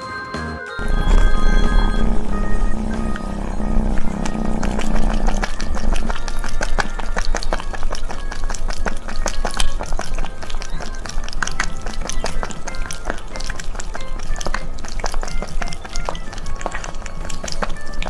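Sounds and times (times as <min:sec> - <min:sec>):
cat lapping water: 0:02.0 - 0:18.0.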